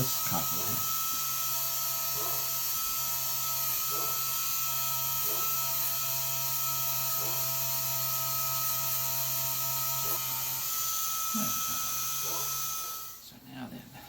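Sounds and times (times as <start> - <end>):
rotary tool high whine: 0.0 - 13.3.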